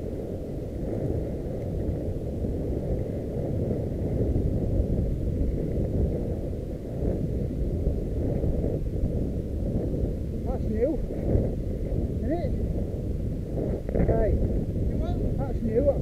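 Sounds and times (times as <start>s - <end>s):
wind buffeting: 0.0s - 16.0s.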